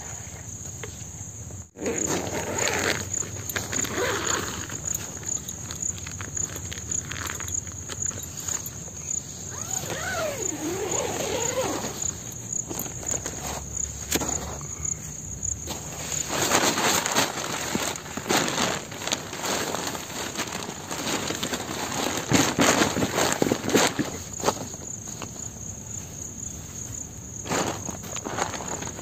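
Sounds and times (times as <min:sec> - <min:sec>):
insects trilling: 0:00.0 - 0:29.0
plastic groundsheet rustling: 0:01.8 - 0:29.0.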